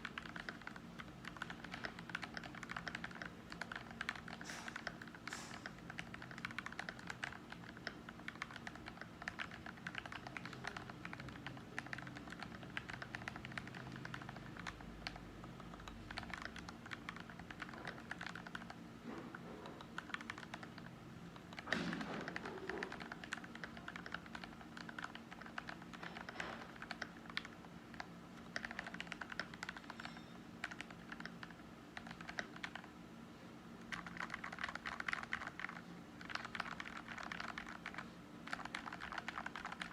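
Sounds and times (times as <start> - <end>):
mechanical keyboard typing: 0.0 - 32.9, 33.8 - 39.9.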